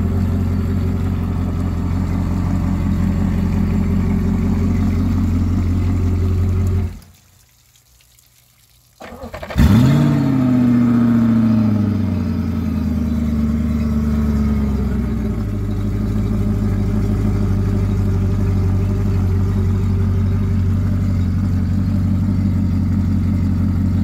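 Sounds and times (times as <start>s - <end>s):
outboard engine idling: 0.0s - 7.4s, 9.0s - 24.0s.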